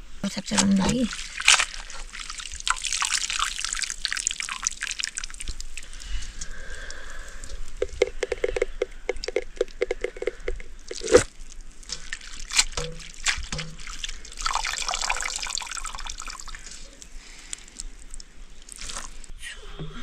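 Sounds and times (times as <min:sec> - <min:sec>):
water pouring and splashing: 0:00.5 - 0:19.4.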